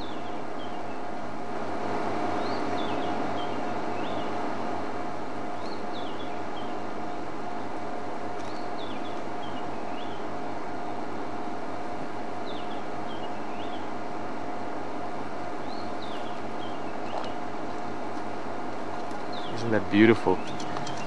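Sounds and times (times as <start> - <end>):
low hum and hiss: 0.0 - 21.0.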